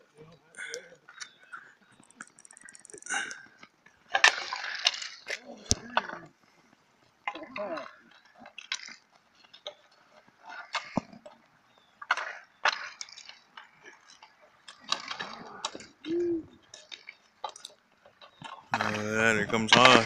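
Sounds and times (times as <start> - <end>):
hockey sticks clacking on asphalt: 0.6 - 20.0.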